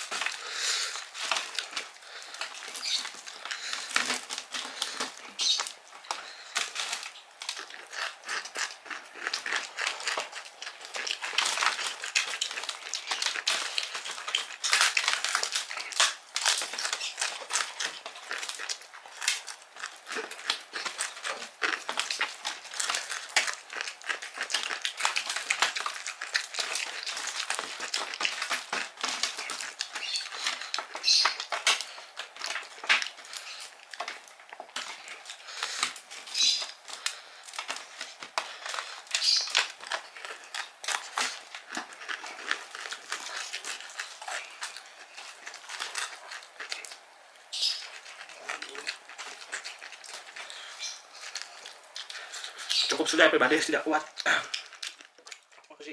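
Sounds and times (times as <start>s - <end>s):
chewing and crunching food: 0.0s - 55.9s.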